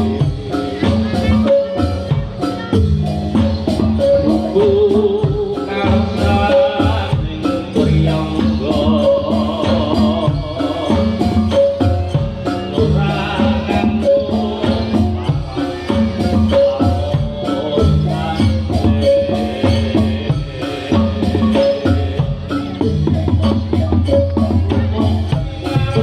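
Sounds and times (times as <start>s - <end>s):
drums and tuned percussion: 0.0s - 26.0s.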